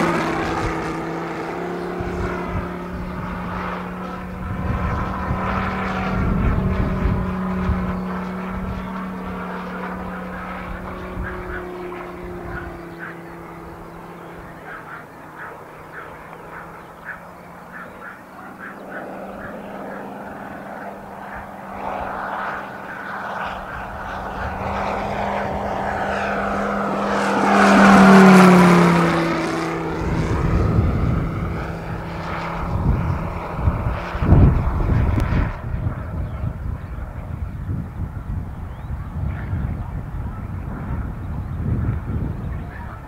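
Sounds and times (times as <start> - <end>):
model plane radial engine flying: 0.0 - 43.0.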